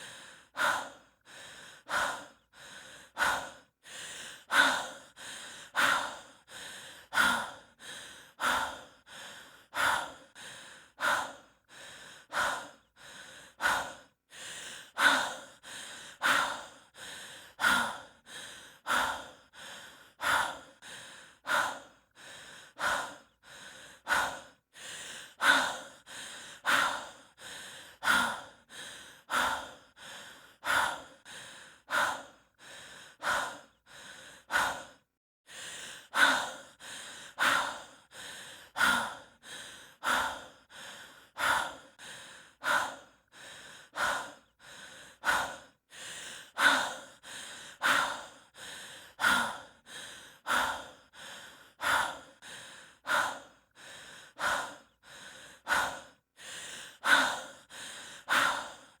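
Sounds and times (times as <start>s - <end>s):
person breathing heavily: 0.0s - 59.0s.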